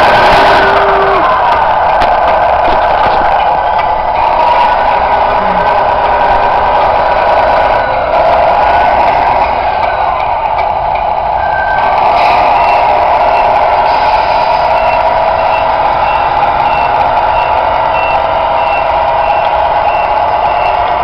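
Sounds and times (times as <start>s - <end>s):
toy diesel engine sound: 0.0s - 21.0s
reversing beeper: 2.7s - 10.2s, 11.4s - 21.0s.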